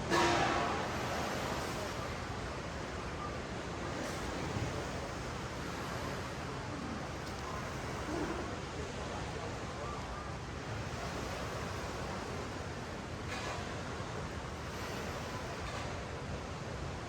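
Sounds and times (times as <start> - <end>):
waves washing on beach: 0.0 - 17.0.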